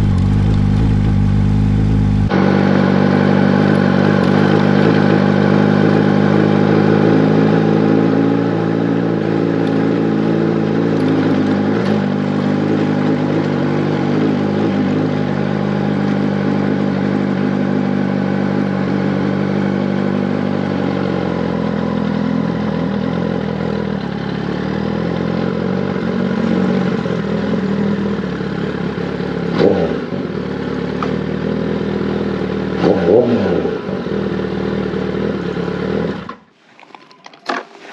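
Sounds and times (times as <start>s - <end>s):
motorcycle engine running: 0.0s - 36.4s.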